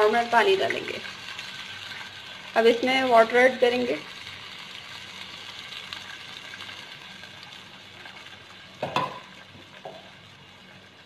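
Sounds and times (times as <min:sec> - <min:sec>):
water sizzling in hot oil: 0:00.0 - 0:11.0.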